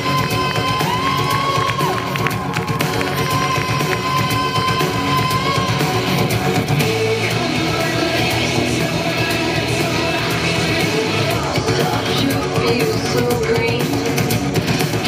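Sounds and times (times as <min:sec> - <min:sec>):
person singing: 0:00.0 - 0:14.2
rock music with electric guitar: 0:00.0 - 0:15.0.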